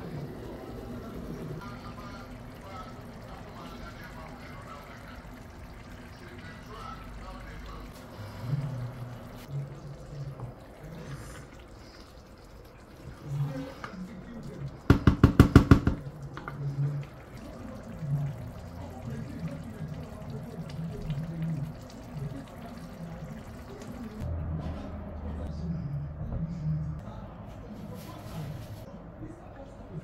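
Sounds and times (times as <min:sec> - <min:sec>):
stew bubbling: 0:00.0 - 0:24.3.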